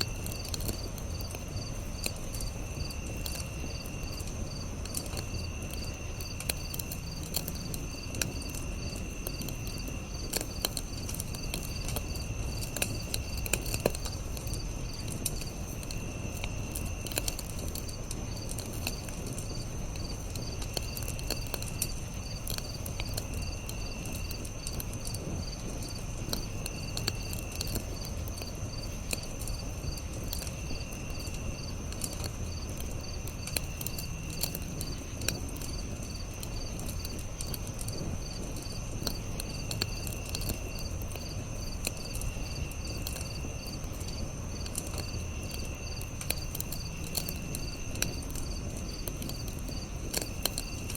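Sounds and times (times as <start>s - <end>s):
campfire crackling and popping: 0.0s - 50.9s
insects pulsing chirp: 0.0s - 50.9s.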